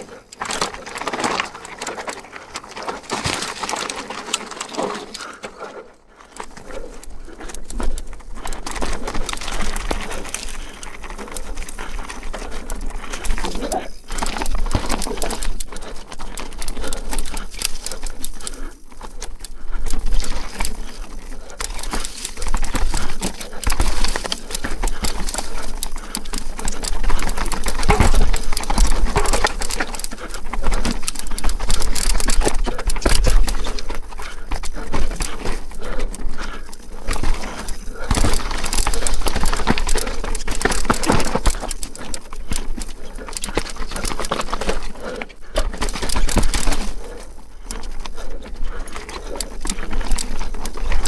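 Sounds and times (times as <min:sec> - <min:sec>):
bike clattering over bumps: 0:06.3 - 0:51.0.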